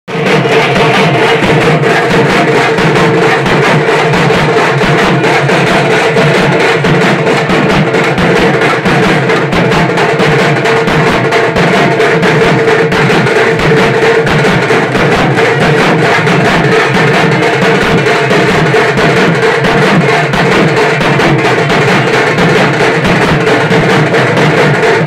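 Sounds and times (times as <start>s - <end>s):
fast procession drumming: 0.1s - 25.0s.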